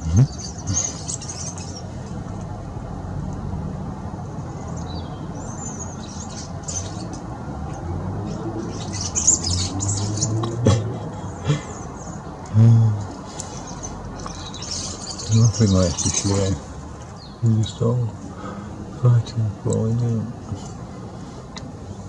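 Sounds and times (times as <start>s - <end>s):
birds chirping and squawking: 0.0s - 2.5s, 4.4s - 21.4s.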